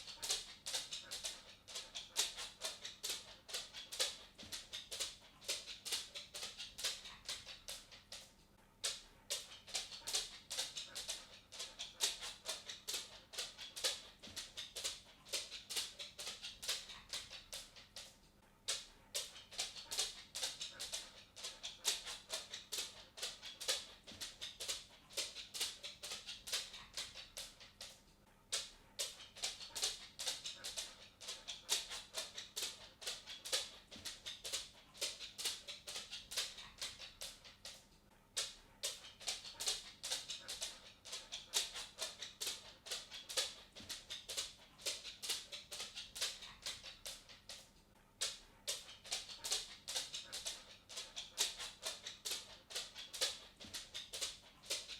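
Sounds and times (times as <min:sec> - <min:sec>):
dog claws tapping on wooden floor: 0:00.0 - 0:54.9.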